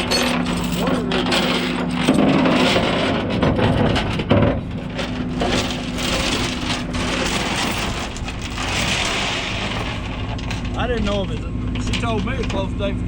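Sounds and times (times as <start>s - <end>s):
engine running: 0.0s - 13.0s
sharp knocks and crackling: 1.7s - 12.7s.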